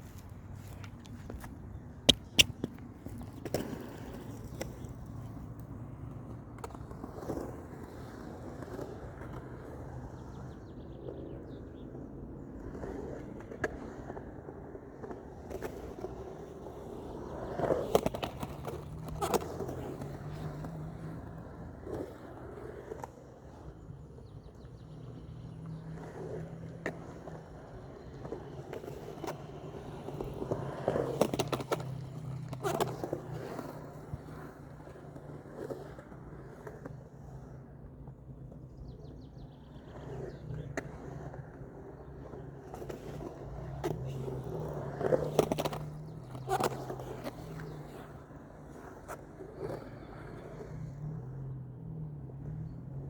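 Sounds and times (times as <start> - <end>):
skateboard wheels rolling on pavement: 0.0 - 53.0
skateboard clacks: 0.1 - 10.4, 12.0 - 51.3.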